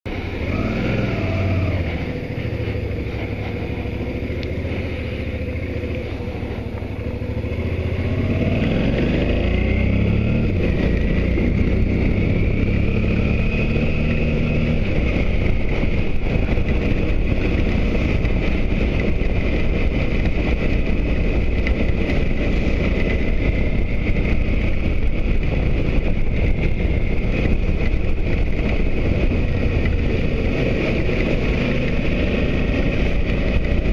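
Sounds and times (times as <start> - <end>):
motorcycle engine: 0.1 - 33.9.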